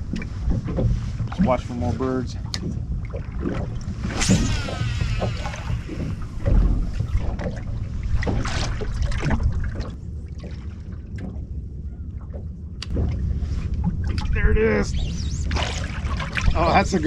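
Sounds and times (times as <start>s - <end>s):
wind buffeting microphone: 0.0s - 10.1s, 11.6s - 17.0s
knocks and splashes: 0.0s - 14.4s, 15.4s - 17.0s
water lapping against boat hull: 0.0s - 17.0s.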